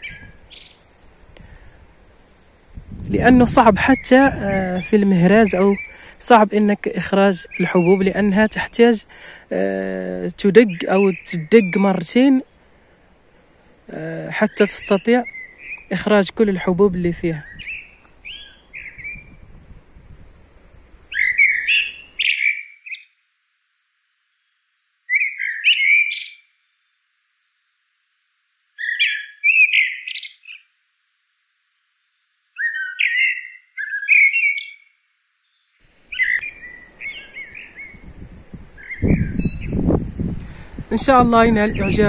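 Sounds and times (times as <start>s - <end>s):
songbird warbling: 0.0s - 19.4s, 20.9s - 23.2s, 25.1s - 26.5s, 28.5s - 30.7s, 32.6s - 35.0s, 35.6s - 42.0s.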